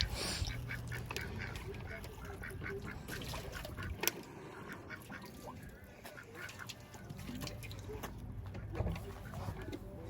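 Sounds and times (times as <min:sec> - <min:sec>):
ducks quacking faintly: 0:00.0 - 0:10.0.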